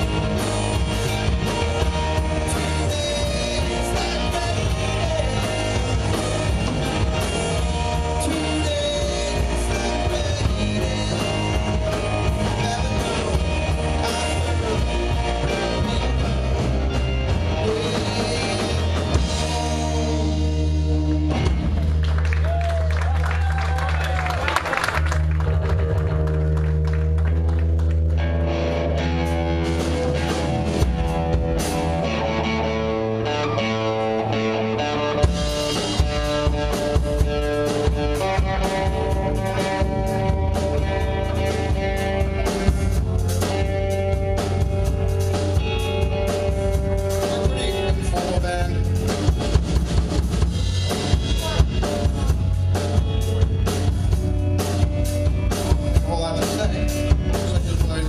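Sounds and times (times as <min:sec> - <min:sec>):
drum kit beat: 0:00.0 - 0:22.6, 0:29.2 - 0:32.6, 0:35.1 - 0:58.0
guitar and bass chords: 0:00.0 - 0:58.0.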